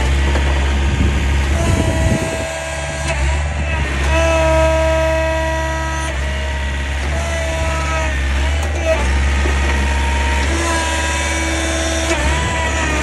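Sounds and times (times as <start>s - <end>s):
engine drone: 0.0s - 13.0s
high hydraulic whine: 0.0s - 13.0s.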